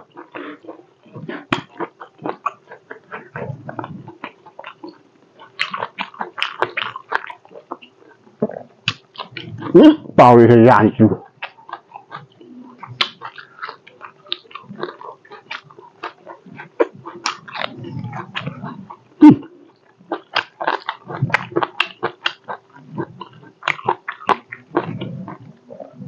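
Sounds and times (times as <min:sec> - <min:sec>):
wet chewing and lip-smacking: 0:00.0 - 0:08.2, 0:08.9 - 0:09.7, 0:11.2 - 0:26.0
faint steady hum: 0:00.0 - 0:26.0.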